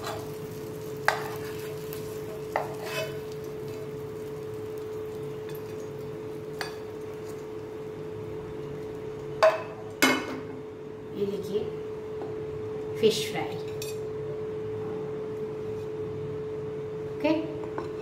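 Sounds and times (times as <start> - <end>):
steady hum with faint hiss: 0.0 - 18.0.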